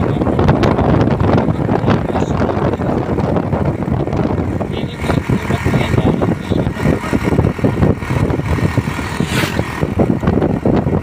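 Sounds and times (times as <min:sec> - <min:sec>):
rattling engine rumble: 0:00.0 - 0:11.0.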